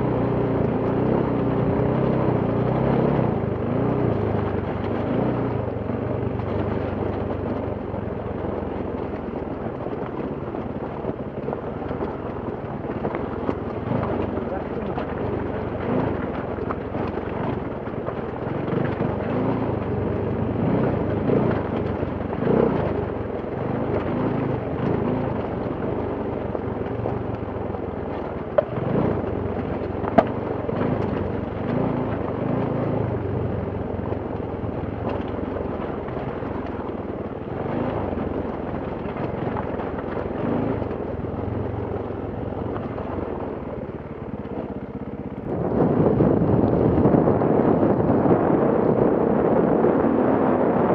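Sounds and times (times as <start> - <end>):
motorcycle engine revving: 0.0 - 9.2, 11.4 - 50.9.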